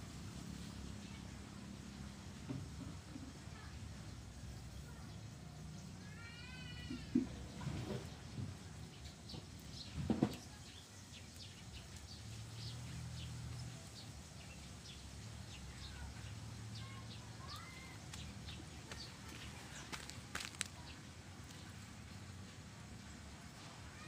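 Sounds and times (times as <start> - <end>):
small birds chirping: 2.8 - 24.0.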